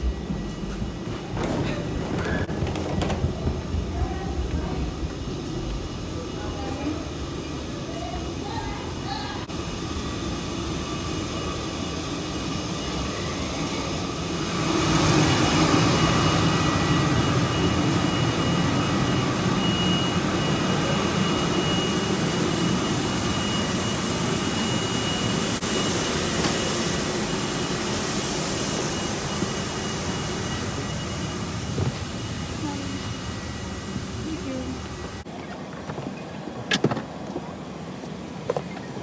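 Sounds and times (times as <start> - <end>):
jet airliner whine and rushing air: 0.0 - 39.0.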